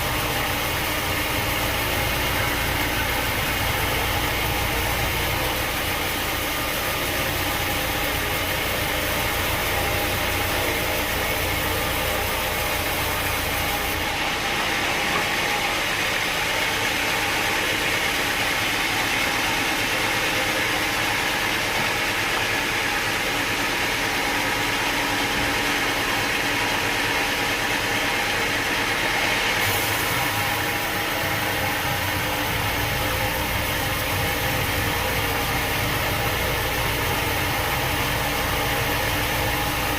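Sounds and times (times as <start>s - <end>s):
sawmill machinery drone and hiss: 0.0s - 39.9s.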